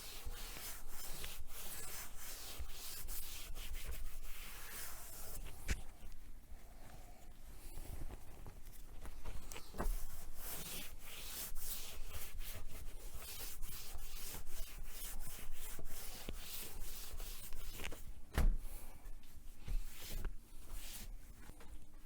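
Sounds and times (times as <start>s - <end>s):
cloth rubbing a shelf: 0.0s - 6.2s, 7.6s - 18.3s, 19.3s - 22.0s.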